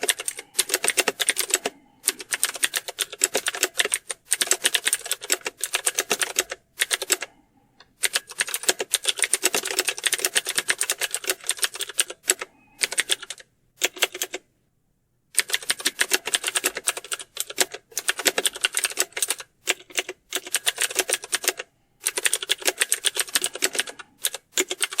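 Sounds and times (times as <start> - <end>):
keyboard typing: 0.0 - 14.4, 15.4 - 25.0.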